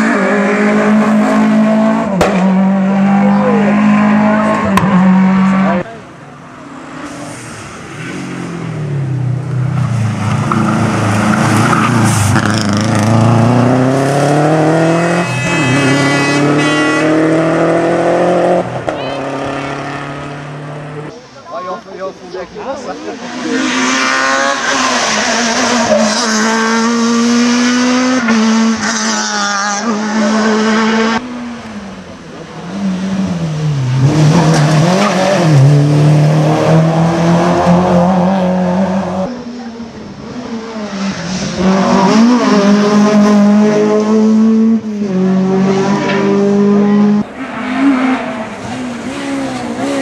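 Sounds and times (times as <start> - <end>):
rally cars passing at speed: 0.0 - 21.2, 22.8 - 50.0.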